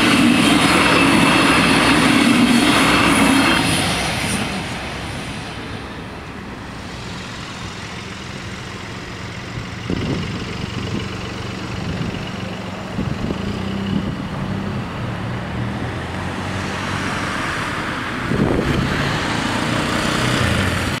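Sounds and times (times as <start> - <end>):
car engines idling and pulling away: 0.0 - 21.0
loud vehicle passing: 0.0 - 21.0
steady engine hum: 0.0 - 21.0.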